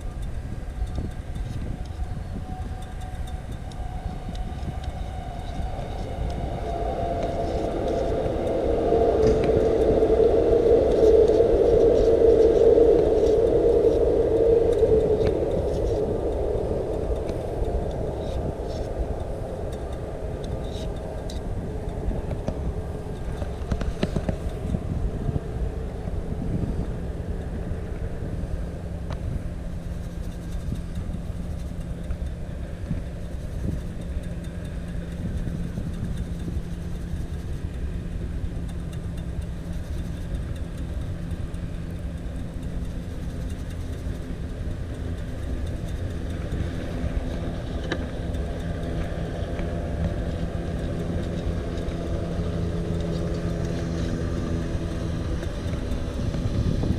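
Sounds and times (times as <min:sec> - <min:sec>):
low engine hum: 0:00.0 - 0:56.9
low rumble of motor traffic: 0:00.0 - 0:56.9.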